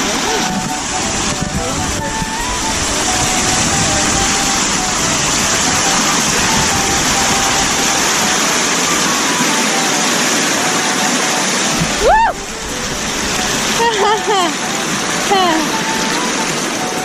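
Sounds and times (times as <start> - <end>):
mountain creek rushing over boulders: 0.0 - 17.0.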